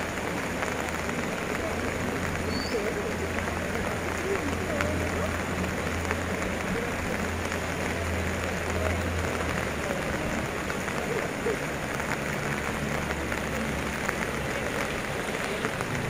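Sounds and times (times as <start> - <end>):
fast-flowing floodwater: 0.0 - 16.0
rain hissing: 0.0 - 16.0.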